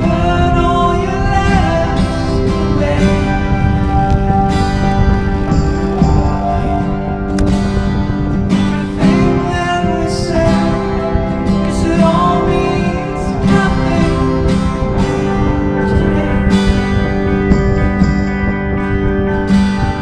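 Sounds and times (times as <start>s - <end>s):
person singing: 0.0s - 8.2s, 8.9s - 17.9s
acoustic guitar strumming: 0.0s - 20.0s.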